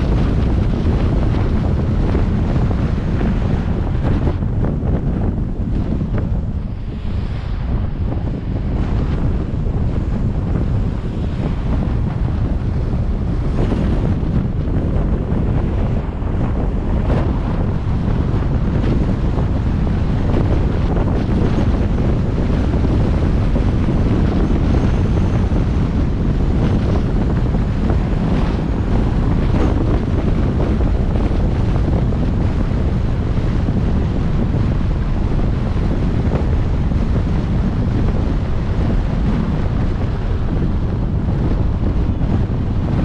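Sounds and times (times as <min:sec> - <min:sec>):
car driving rumble: 0:00.0 - 0:43.0
wind buffeting microphone: 0:00.0 - 0:43.0.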